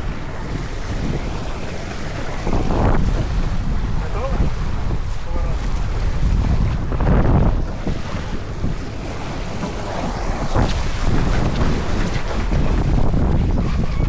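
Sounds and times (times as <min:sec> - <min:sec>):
water splash: 0:00.0 - 0:13.6
water rushing along hull: 0:00.0 - 0:14.0
wind buffeting microphone: 0:00.0 - 0:14.0.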